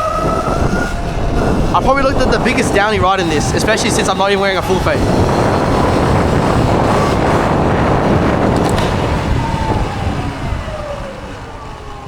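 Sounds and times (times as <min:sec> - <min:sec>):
electric motor whine: 0:00.0 - 0:12.0
wind rush on microphone: 0:00.0 - 0:12.0.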